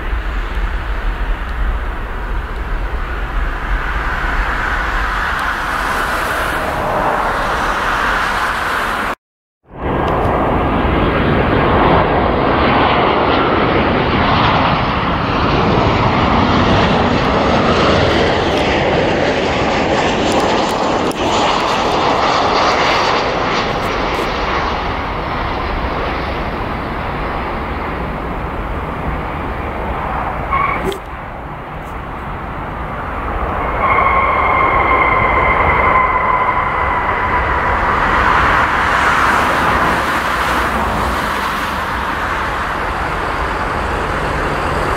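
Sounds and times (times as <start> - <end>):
jet engine whine: 0.0 - 44.9
jet engines roaring: 0.0 - 44.9.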